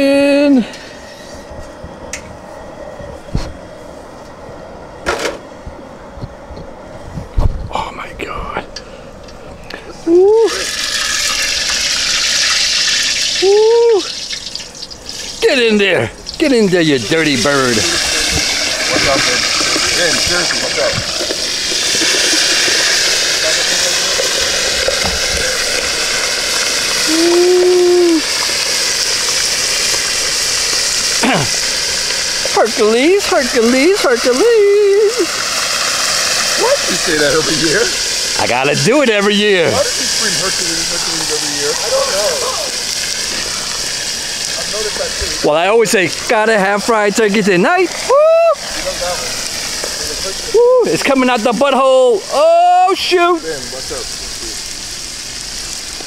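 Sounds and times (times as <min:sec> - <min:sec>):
hot oil sizzling: 0:08.8 - 0:56.0
burner roaring: 0:09.7 - 0:55.9.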